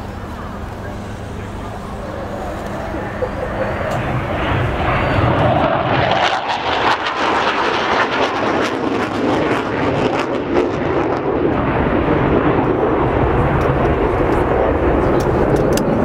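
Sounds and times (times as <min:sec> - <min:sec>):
jet engine crackles: 0:00.0 - 0:16.0
low-flying jets: 0:00.0 - 0:16.0.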